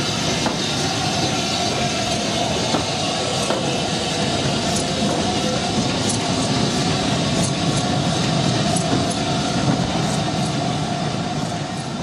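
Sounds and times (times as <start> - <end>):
steam train running: 0.0 - 12.0.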